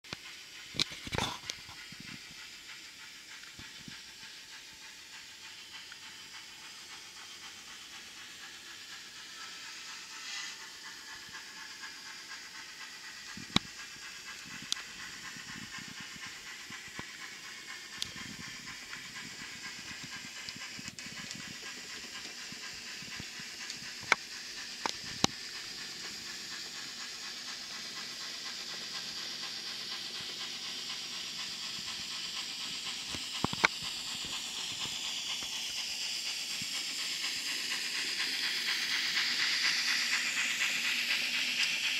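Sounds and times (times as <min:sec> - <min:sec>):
model train running on track: 0:00.0 - 0:41.9.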